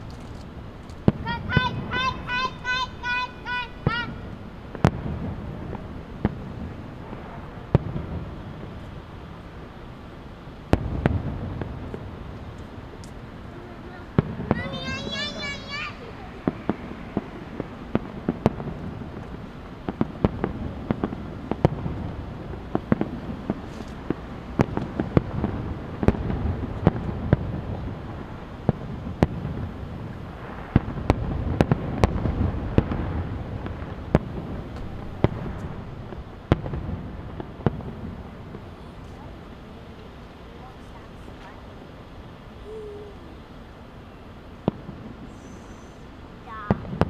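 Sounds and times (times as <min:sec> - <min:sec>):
distant fireworks bangs: 0:00.0 - 0:42.4, 0:44.4 - 0:47.0
low rolling rumble: 0:00.0 - 0:42.6.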